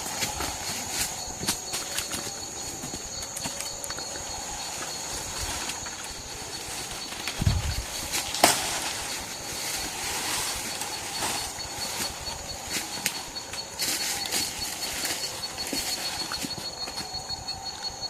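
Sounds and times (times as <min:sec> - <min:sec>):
high-pitched insect calls: 0:00.0 - 0:18.0
rapidly pulsing insect call: 0:00.0 - 0:18.0.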